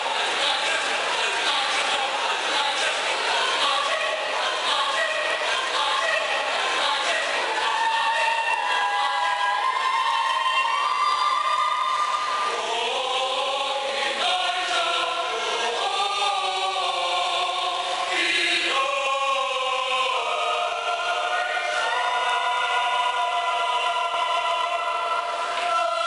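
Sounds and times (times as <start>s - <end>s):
mixed choir singing unaccompanied: 0.0s - 26.0s.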